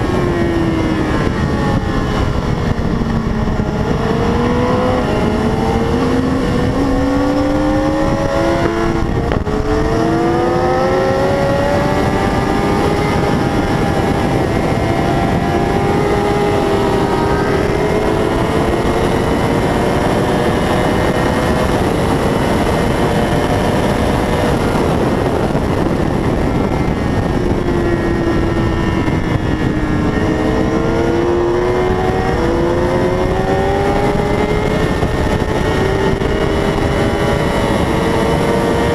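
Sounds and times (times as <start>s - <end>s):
heavy wind rush: 0.0s - 38.9s
motorcycle engine at high revs: 0.0s - 38.9s.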